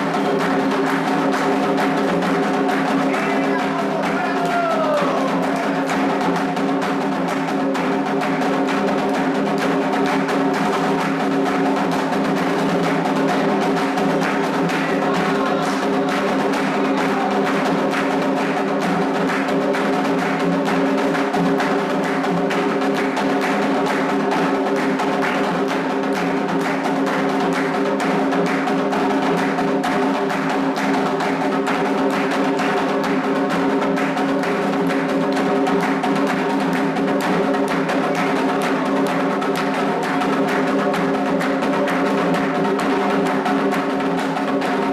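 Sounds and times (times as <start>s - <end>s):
hand drums playing fast rhythm: 0.0s - 44.9s.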